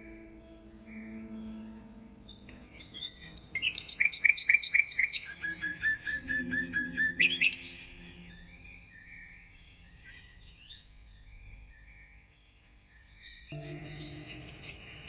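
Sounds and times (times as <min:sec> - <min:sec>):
faint bird twittering: 0:00.0 - 0:15.0
bird whistling song: 0:00.8 - 0:14.2.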